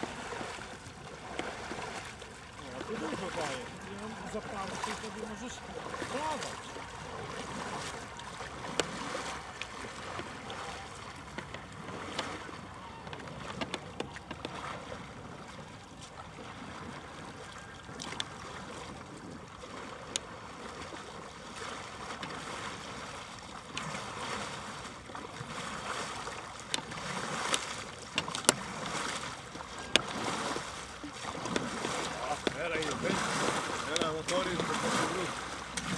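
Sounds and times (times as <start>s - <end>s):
water splashing against canoe hull: 0.0s - 35.9s.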